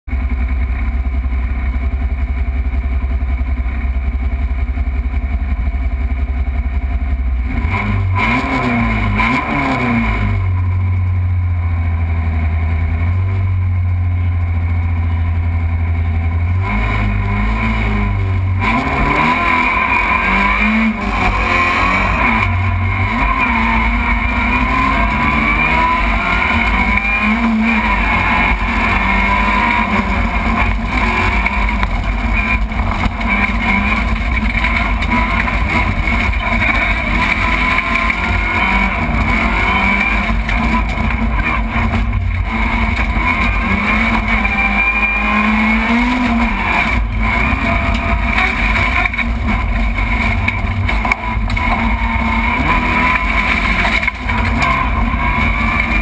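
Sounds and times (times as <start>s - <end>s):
rally car engine revving: 0.1s - 56.0s.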